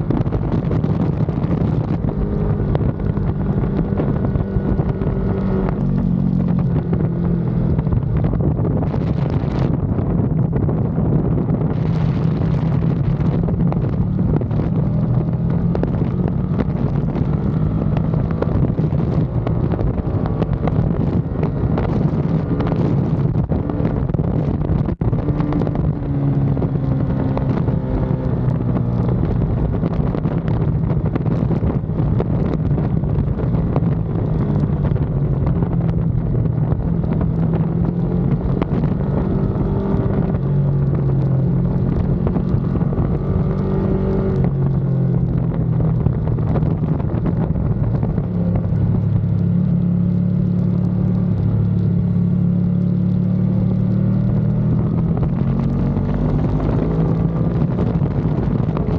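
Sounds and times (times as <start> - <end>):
wind noise on microphone: 0.0 - 58.9.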